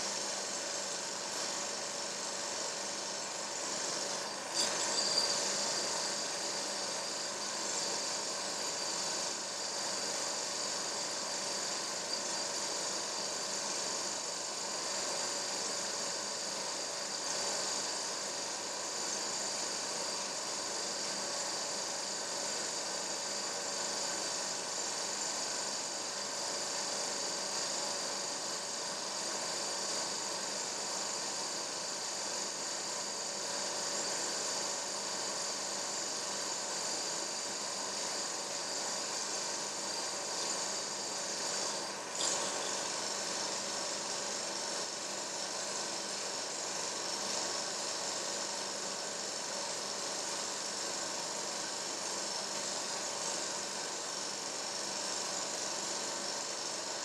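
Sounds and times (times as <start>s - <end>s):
mechanical hum with hiss: 0.0s - 57.0s.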